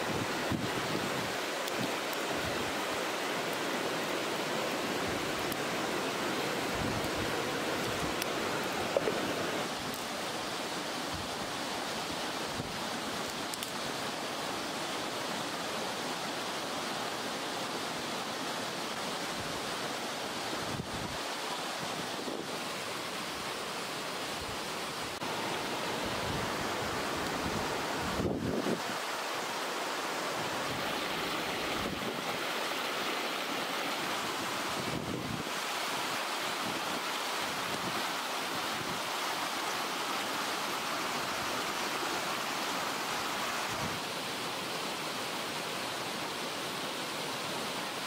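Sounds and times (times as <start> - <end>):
stream flowing: 0.0 - 48.0.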